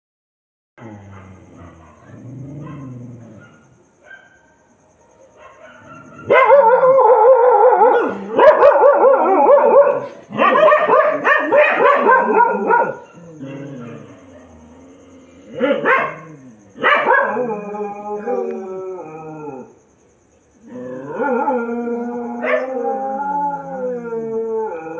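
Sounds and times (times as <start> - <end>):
dogs howling: 0.8 - 3.7, 5.4 - 14.8, 15.6 - 19.7, 20.9 - 24.9.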